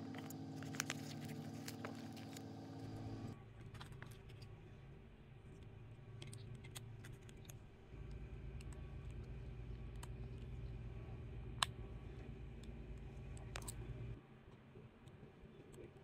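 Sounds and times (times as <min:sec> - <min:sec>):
low steady rumble: 0:00.0 - 0:14.2.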